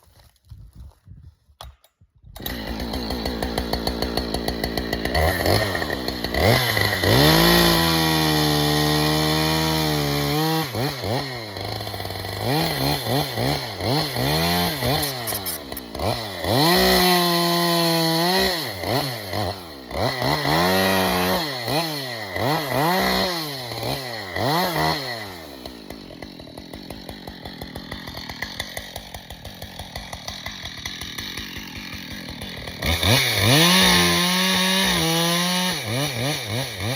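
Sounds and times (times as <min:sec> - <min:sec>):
chainsaw revving and idling: 0:02.4 - 0:36.9.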